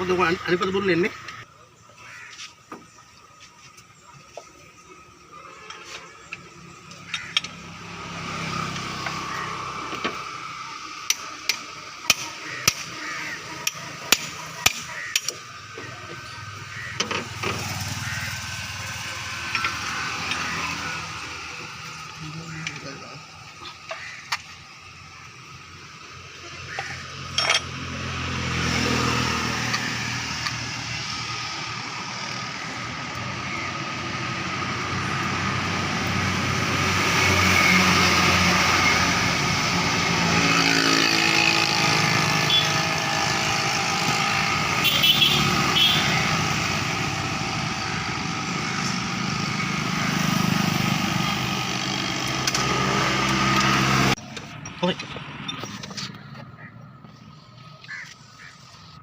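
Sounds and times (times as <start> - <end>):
vehicle engine running: 6.7 - 58.5.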